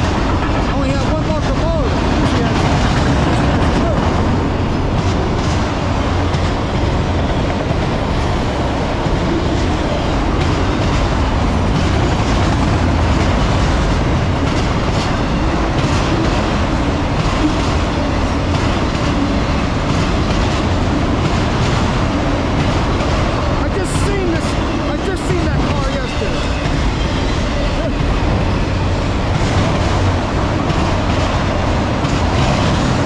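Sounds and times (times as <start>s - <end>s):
train wheels rumbling on rail: 0.0s - 33.0s
wheels clacking over rail joints: 0.0s - 33.0s.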